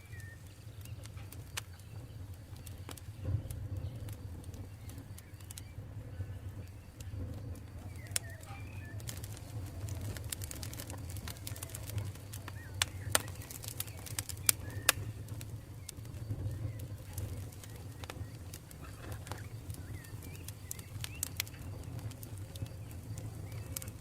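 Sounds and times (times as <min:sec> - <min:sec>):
campfire crackling: 0:00.0 - 0:24.0
faint bird calls: 0:04.6 - 0:24.0.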